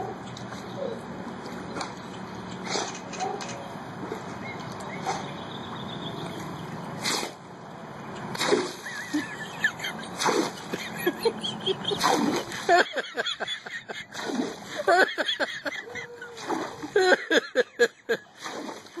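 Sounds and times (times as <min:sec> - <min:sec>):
water splashing: 0:00.0 - 0:07.5, 0:08.2 - 0:19.0.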